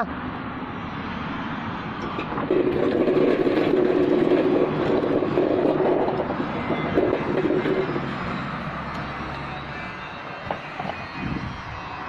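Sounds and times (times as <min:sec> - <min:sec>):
vehicle engine running: 0:02.0 - 0:12.0.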